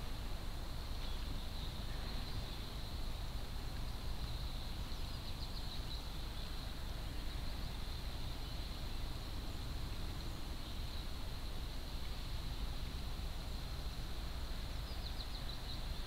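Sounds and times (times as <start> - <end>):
faint high hiss: 0.0 - 16.0.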